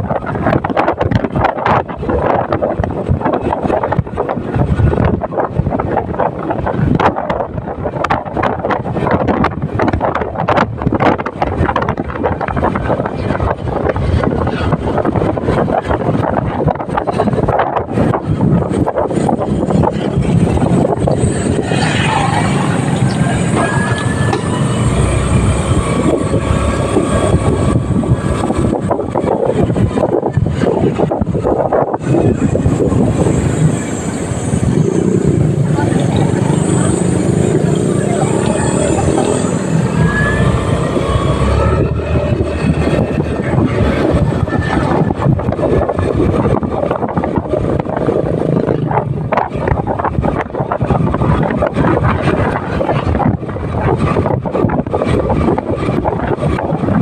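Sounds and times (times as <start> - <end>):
motorcycle engine and road rumble: 0.0 - 57.0
wind buffeting microphone: 0.0 - 57.0.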